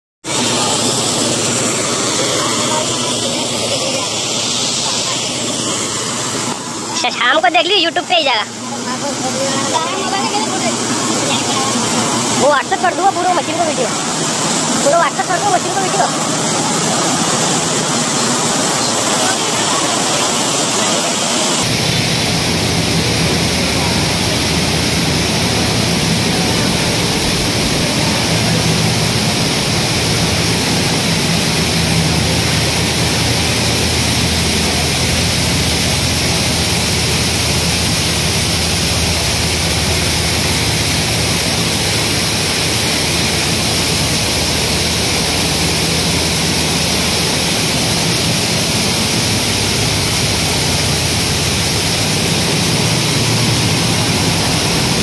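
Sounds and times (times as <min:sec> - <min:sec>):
loud mechanical machinery noise: 0:00.2 - 0:55.0
low hum: 0:00.3 - 0:55.0.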